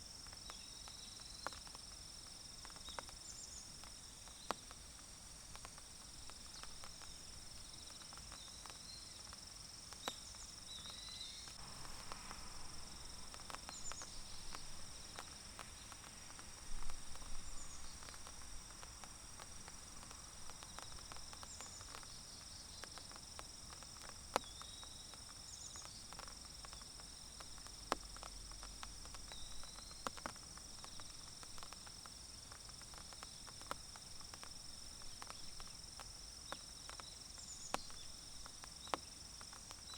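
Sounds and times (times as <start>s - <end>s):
rain drops ticking on leaves: 0.0s - 39.9s
insect chorus trilling: 0.4s - 39.9s.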